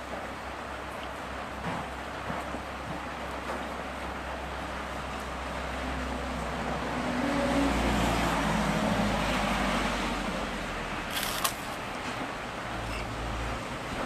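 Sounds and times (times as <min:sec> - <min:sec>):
traffic hum: 0:00.0 - 0:14.0
wind: 0:00.0 - 0:14.0.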